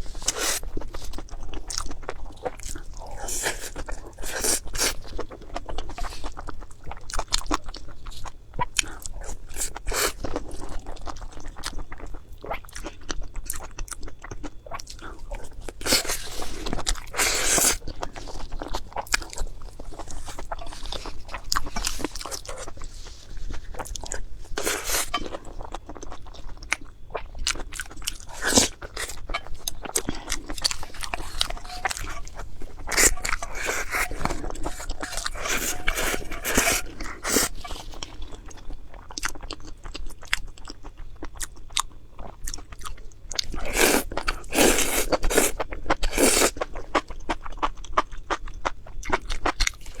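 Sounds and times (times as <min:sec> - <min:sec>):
person crunching food: 0:00.2 - 0:50.0.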